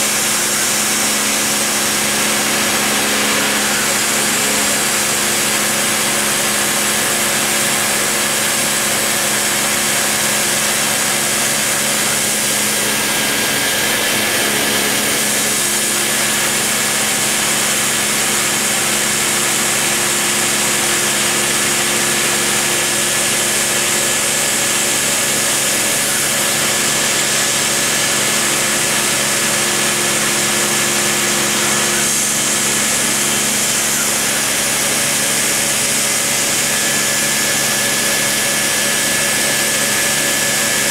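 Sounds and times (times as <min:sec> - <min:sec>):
rotary tool whining cutting wood: 0:00.0 - 0:40.9.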